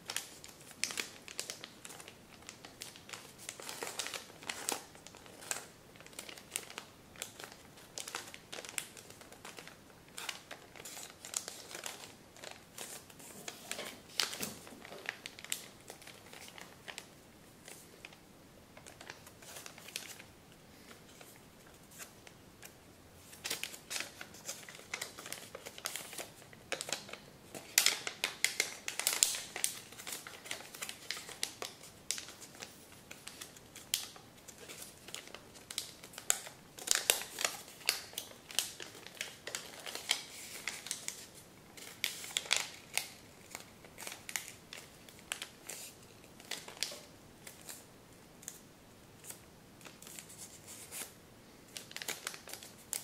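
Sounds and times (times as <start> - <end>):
paper rustling and crinkling: 0.0 - 18.2, 18.8 - 20.3, 20.9 - 47.8.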